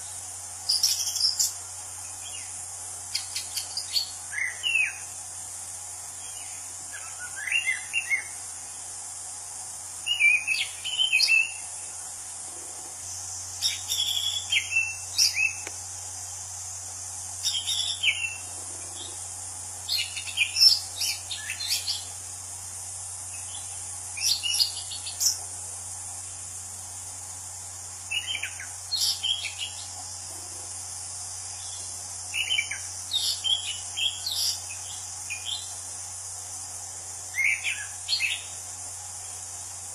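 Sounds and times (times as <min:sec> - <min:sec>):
high insect chorus: 0:00.0 - 0:39.9.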